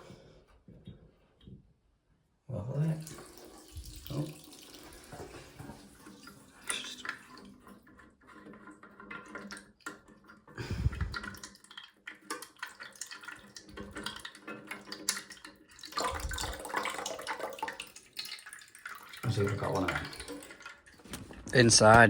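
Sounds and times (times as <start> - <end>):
water dripping in toilet cistern: 2.9 - 22.0.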